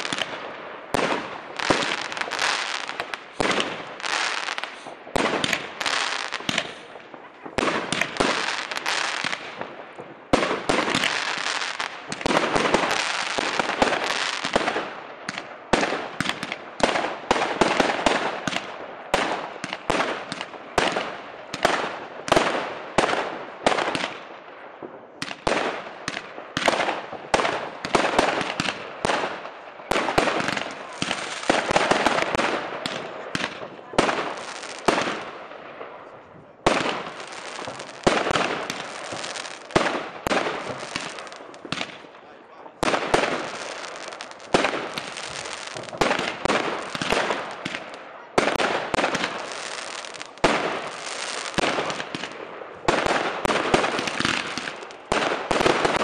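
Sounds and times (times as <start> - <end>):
fireworks crackling: 0.0 - 24.2, 24.8 - 56.0
fireworks bangs: 0.0 - 56.0.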